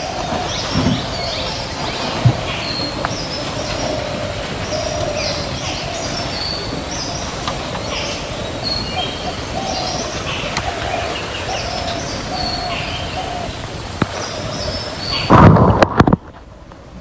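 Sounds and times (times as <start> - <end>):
low hooting bird calls: 0.0 - 15.4
background hiss: 0.0 - 17.0.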